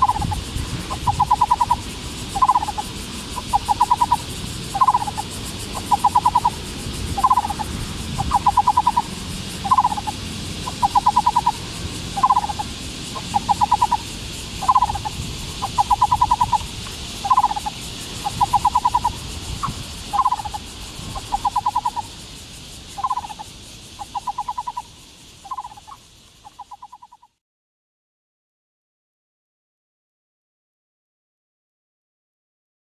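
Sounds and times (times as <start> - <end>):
barbet singing: 0.0 - 22.2, 23.0 - 27.3.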